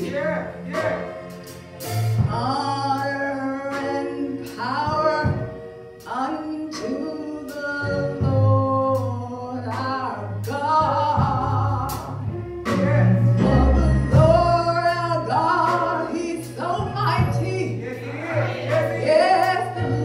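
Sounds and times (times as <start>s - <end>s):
gospel choir singing: 0.0s - 20.0s.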